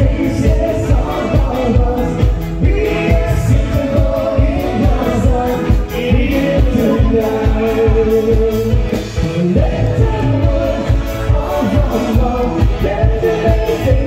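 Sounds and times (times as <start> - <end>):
dance music with a singer: 0.0 - 14.0.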